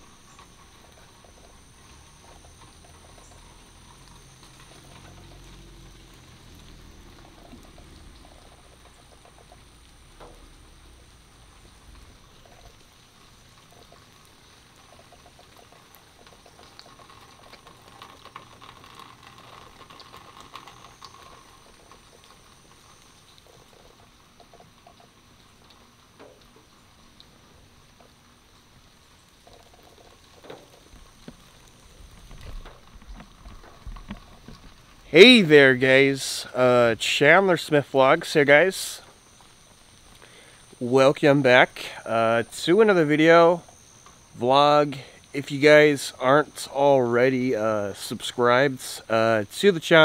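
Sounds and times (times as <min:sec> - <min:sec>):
small ticks: 0:00.0 - 0:35.1, 0:37.3 - 0:46.8
rainwater dripping and trickling: 0:00.0 - 0:50.0.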